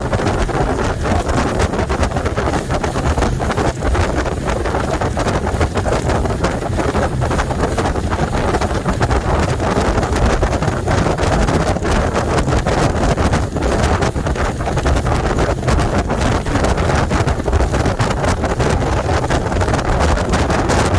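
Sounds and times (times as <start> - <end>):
boat engine: 0.0 - 20.9
hull running on water: 0.0 - 20.9
wind buffeting microphone: 0.0 - 20.9.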